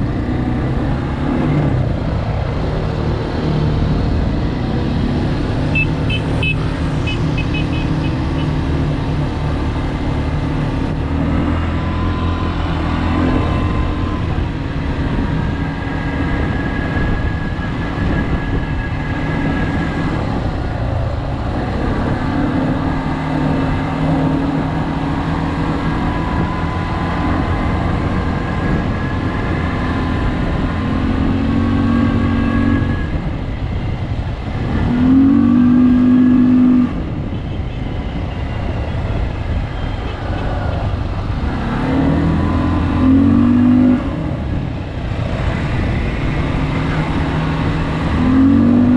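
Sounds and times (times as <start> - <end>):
atv engine revving: 0.0 - 33.2, 34.4 - 37.1, 40.0 - 48.9.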